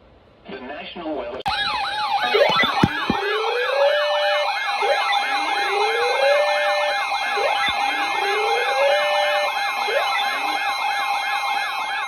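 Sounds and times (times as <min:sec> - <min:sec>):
fast yelping siren: 0:01.5 - 0:12.0
slow wailing siren: 0:01.5 - 0:12.0
steady electronic tone: 0:01.5 - 0:12.0.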